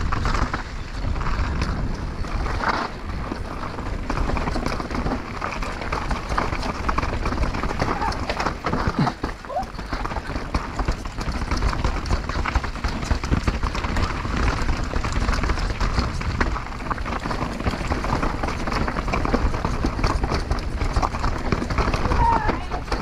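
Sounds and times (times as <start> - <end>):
bike rattling and knocking: 0.0 - 23.0
bike tyres on dirt and stones: 0.0 - 23.0
wind on microphone: 0.0 - 23.0.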